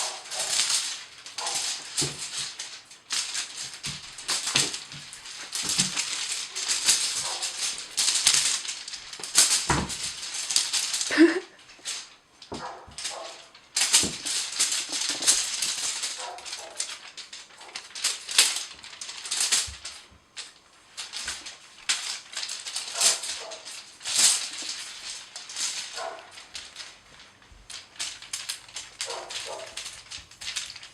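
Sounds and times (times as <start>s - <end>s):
cat playing with crinkly toy: 0.0s - 30.9s.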